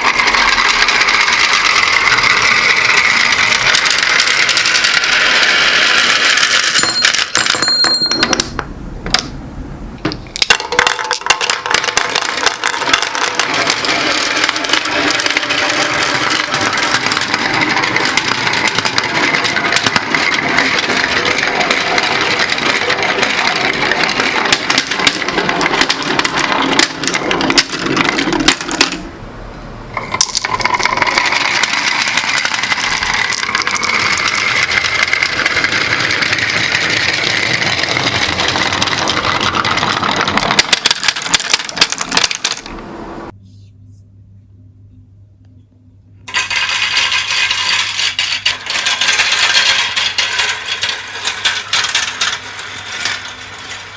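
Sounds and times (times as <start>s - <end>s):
glass marbles rolling and clicking: 0.0s - 9.3s, 10.1s - 29.1s, 30.0s - 42.9s, 46.2s - 53.9s.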